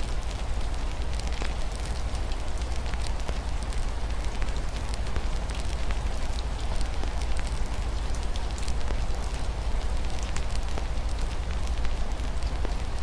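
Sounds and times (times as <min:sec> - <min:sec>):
rain on a window: 0:00.0 - 0:13.0.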